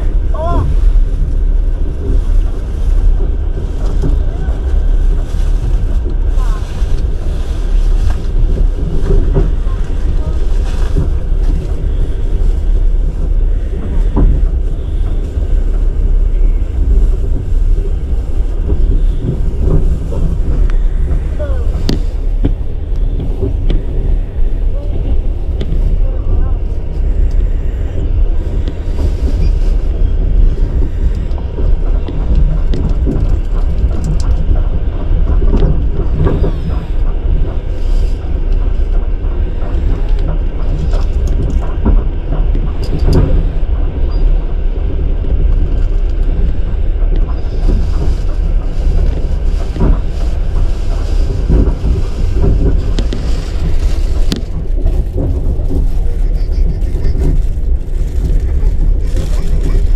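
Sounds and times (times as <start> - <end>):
vehicle rumbling: 0.0 - 59.9.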